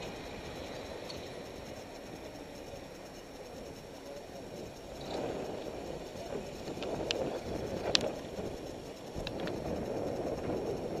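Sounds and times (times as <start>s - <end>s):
road rumble: 0.0s - 11.0s
wind noise: 0.0s - 11.0s.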